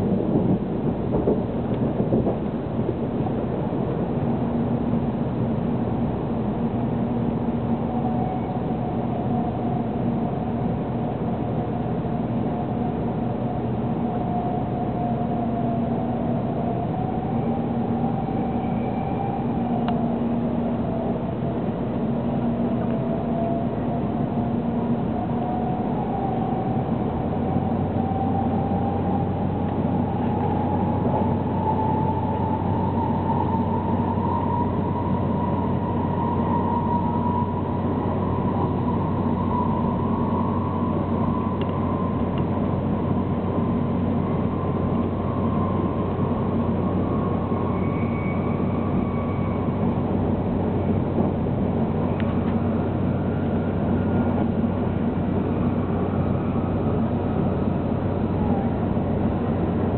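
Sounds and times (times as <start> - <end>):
train motor whine: 0.0 - 59.9
wheels rumbling on rail: 0.0 - 59.9.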